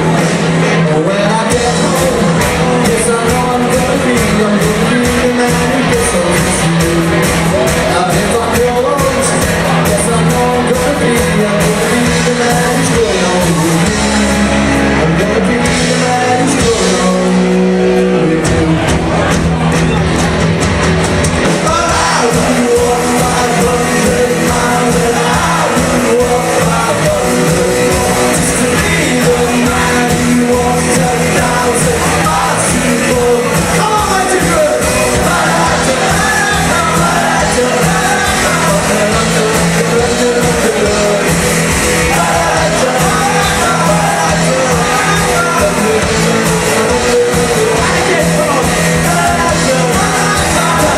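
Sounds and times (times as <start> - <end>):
person singing: 0.0 - 20.0, 21.4 - 50.9
live rock band playing: 0.0 - 50.9.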